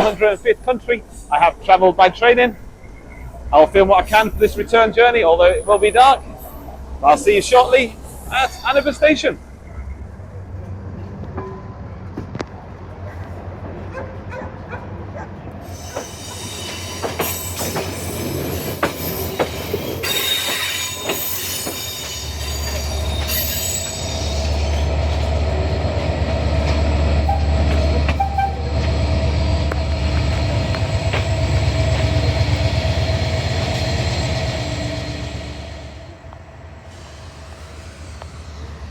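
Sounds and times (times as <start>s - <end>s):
train wheels squealing and clicking: 0.0s - 12.6s, 15.5s - 38.9s
deep steady train rumble: 0.0s - 38.9s.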